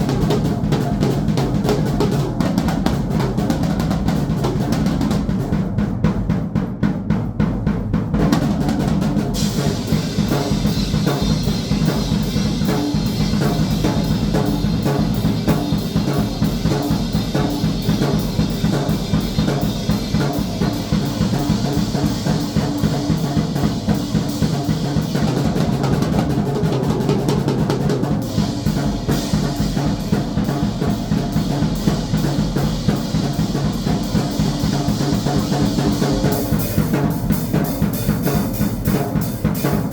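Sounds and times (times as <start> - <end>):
drum kit fast groove: 0.0 - 39.9.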